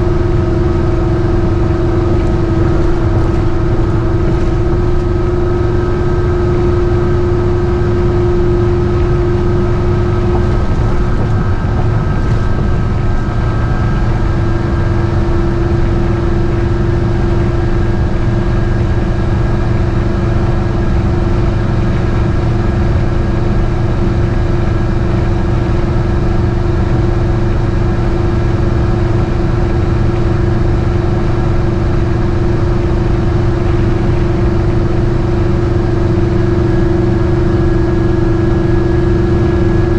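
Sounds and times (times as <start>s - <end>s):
engine and road noise rumble: 0.0s - 39.9s
steady whine: 0.0s - 39.9s.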